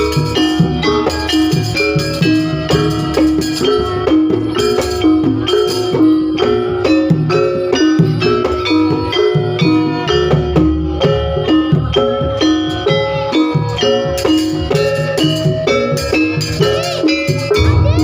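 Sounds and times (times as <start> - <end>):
gamelan ensemble with drums: 0.0 - 18.0.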